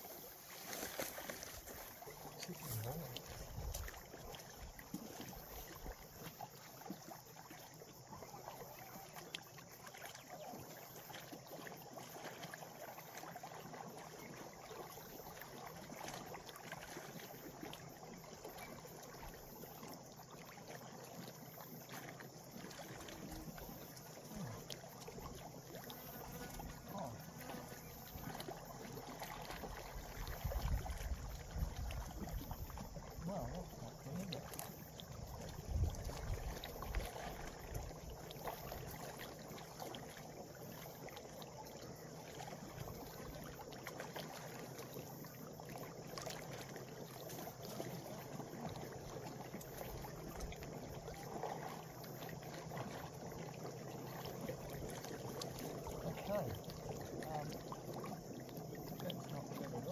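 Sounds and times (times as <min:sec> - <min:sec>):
water lapping: 0:00.0 - 0:59.9.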